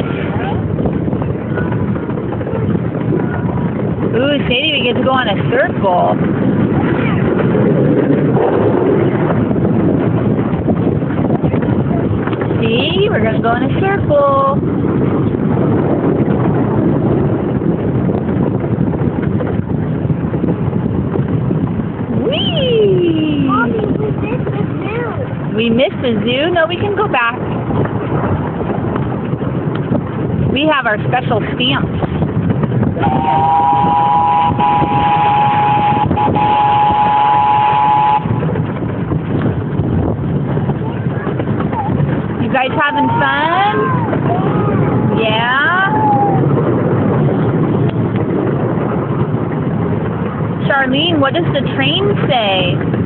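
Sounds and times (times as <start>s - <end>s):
train running noise: 0.0s - 53.0s
wind buffeting microphone: 0.0s - 53.0s.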